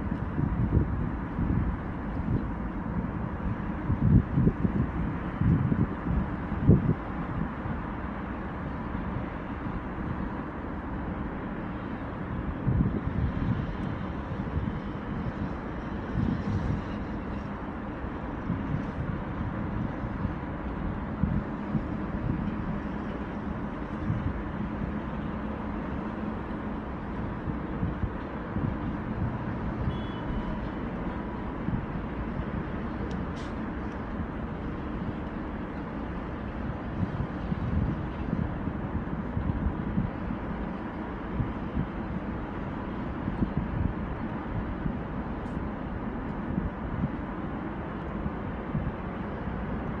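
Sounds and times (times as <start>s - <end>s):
traffic crossing a concrete bridge: 0.0s - 50.0s
trucks passing: 0.0s - 50.0s
wind buffeting microphone: 0.0s - 50.0s.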